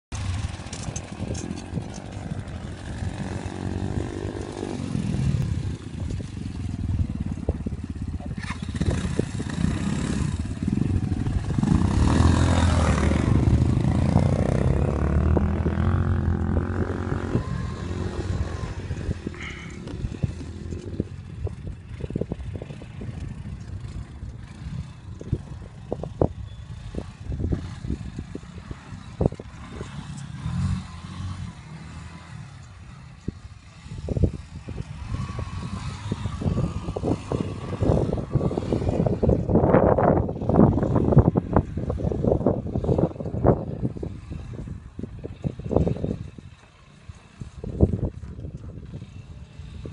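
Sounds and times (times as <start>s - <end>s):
knocks and rattles over rough ground: 0.1s - 49.9s
quad bike engine revving: 0.1s - 49.9s.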